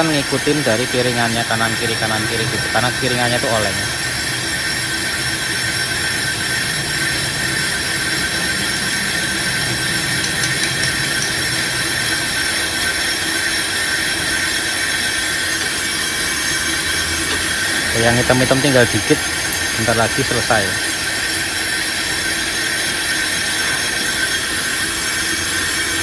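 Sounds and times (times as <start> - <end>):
lathe bit scraping brake disc: 0.0 - 26.0.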